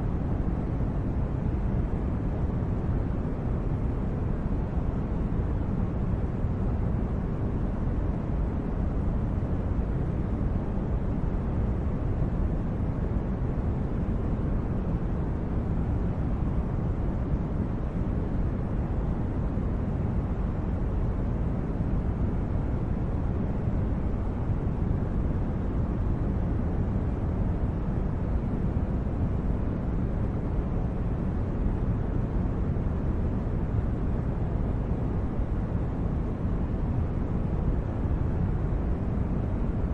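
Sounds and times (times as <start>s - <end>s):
steady low rumbling noise: 0.0s - 39.9s.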